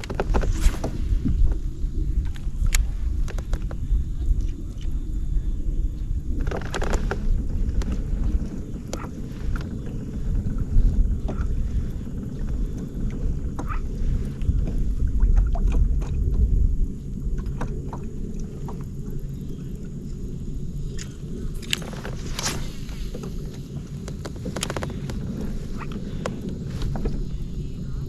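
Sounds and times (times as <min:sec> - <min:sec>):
wind rumble on microphone: 0:00.0 - 0:28.0.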